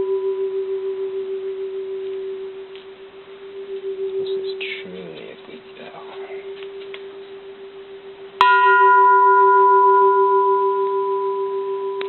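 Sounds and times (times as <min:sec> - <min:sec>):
low steady bell hum: 0:00.0 - 0:12.0
temple bell ringing: 0:00.0 - 0:12.0.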